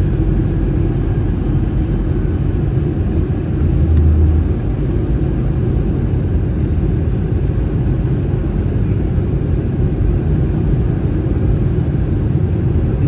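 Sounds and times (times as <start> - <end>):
airplane cabin rumble in flight: 0.0 - 13.0.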